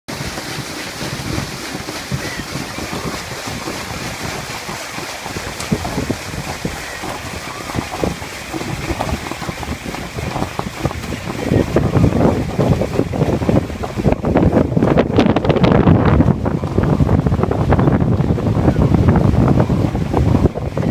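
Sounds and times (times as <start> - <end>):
paddlewheel churning water: 0.1 - 20.9
wind buffeting microphone: 0.1 - 20.9.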